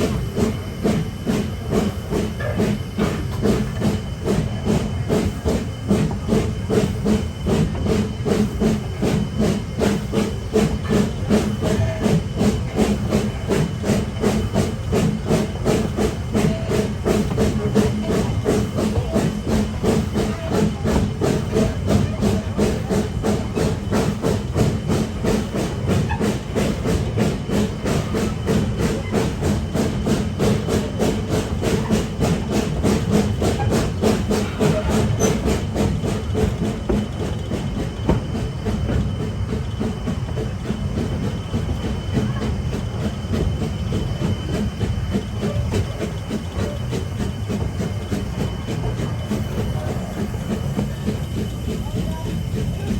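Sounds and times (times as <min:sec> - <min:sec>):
steam hissing: 0:00.0 - 0:52.9
steam locomotive exhaust chuffs: 0:00.0 - 0:52.9.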